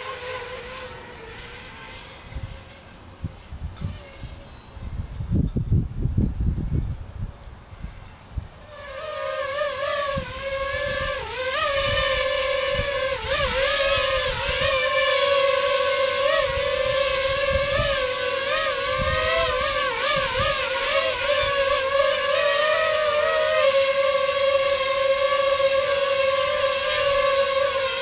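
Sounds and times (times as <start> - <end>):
drone propellers whining: 0.0 - 4.8, 8.6 - 28.0.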